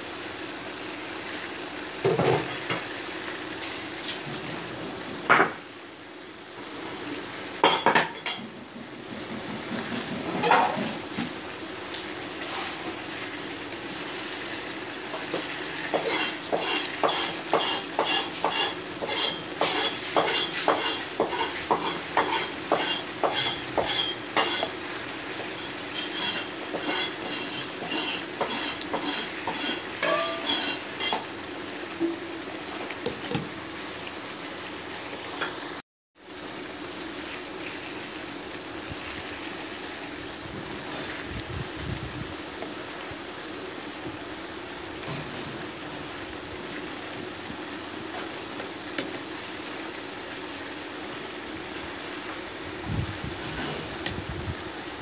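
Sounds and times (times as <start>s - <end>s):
chicken sizzling in oil: 0.0s - 55.0s.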